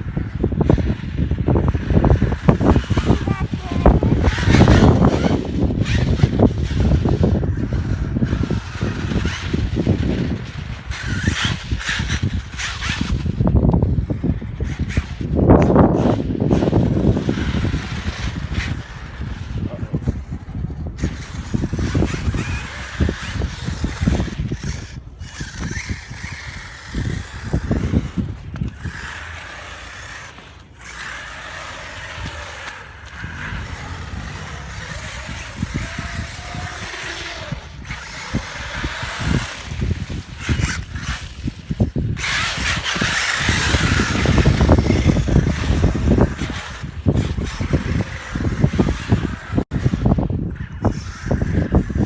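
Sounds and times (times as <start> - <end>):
rc truck electric motors whining: 0.0 - 52.0
wind buffeting microphone: 0.0 - 52.0.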